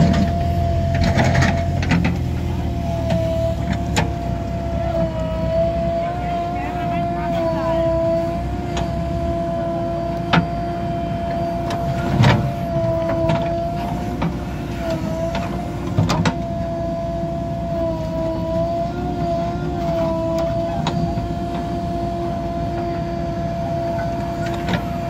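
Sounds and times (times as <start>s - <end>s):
diesel engine whining: 0.0s - 25.0s.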